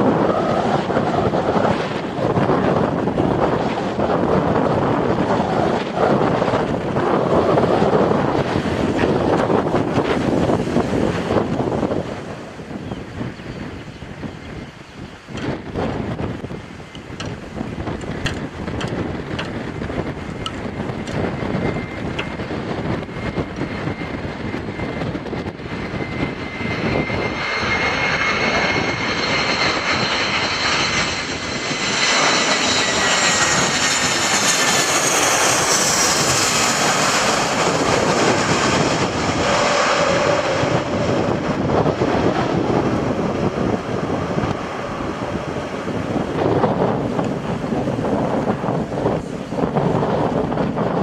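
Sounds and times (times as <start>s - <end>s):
jet airliner passing overhead: 0.0s - 51.0s.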